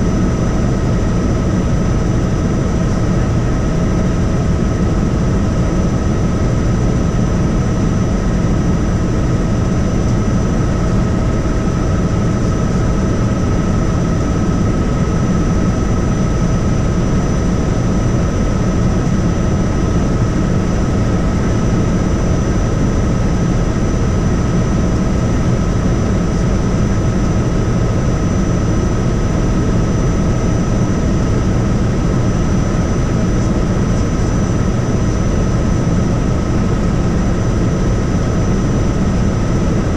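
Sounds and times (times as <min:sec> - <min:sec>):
helicopter engine whine: 0:00.0 - 0:39.9
helicopter rotor drone: 0:00.0 - 0:39.9.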